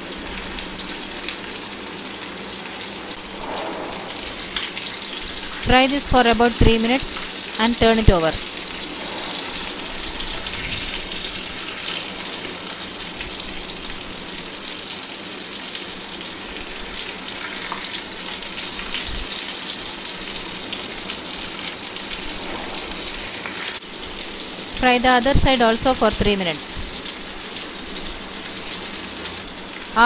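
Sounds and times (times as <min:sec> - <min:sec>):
fish sizzling in hot oil: 0:00.0 - 0:05.6, 0:06.2 - 0:07.6, 0:08.2 - 0:24.9, 0:26.7 - 0:30.0.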